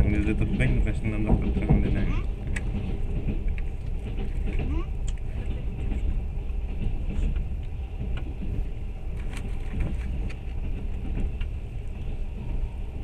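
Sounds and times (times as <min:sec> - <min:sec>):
train rumbling from inside carriage: 0:00.0 - 0:13.0.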